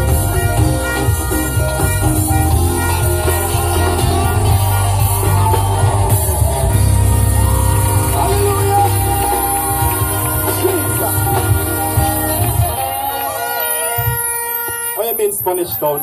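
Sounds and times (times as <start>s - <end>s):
heavy bass line: 0.0s - 13.5s
live band playing loudly: 0.0s - 16.0s.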